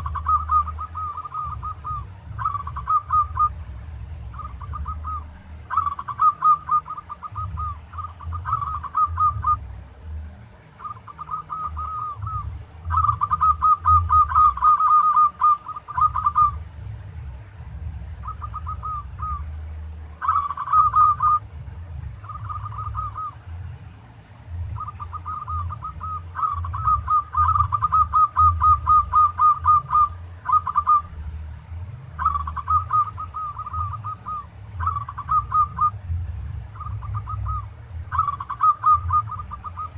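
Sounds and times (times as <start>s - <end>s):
dove calling trilled coos: 0.0s - 39.9s.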